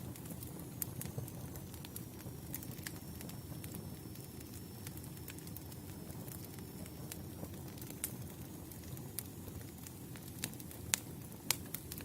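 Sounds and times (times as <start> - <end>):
campfire burning: 0.0 - 12.0
fire crackling and popping: 0.0 - 12.0.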